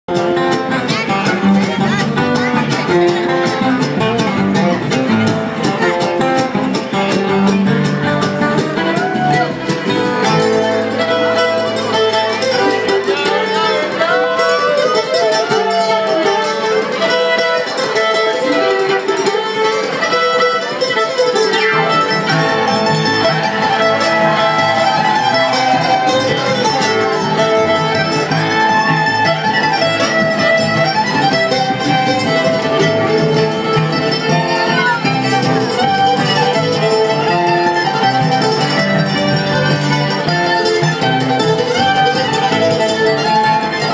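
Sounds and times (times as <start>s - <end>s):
fiddle melody: 0.1s - 43.9s
mandolin: 0.1s - 43.9s
strummed acoustic guitar: 0.1s - 43.9s.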